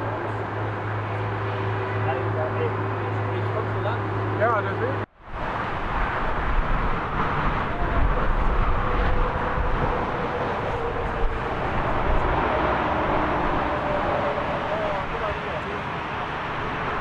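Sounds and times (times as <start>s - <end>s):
faint jet whine: 0.0s - 5.1s, 5.7s - 17.0s
jet engines roaring: 0.0s - 17.0s.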